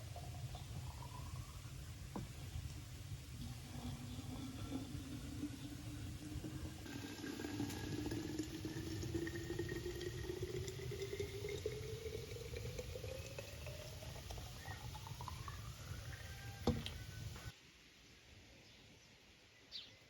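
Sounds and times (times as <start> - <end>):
liquid pouring into a jar: 0.0 - 17.1.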